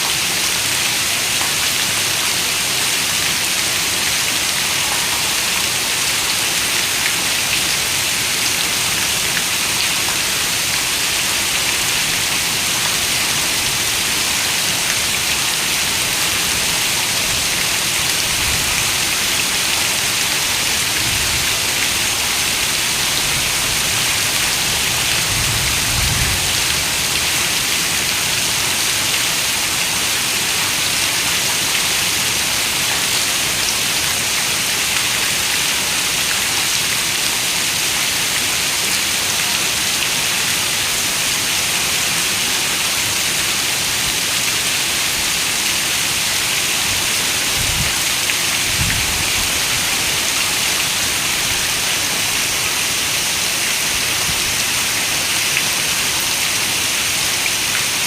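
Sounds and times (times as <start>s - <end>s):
heavy rain on a window: 0.0s - 58.0s.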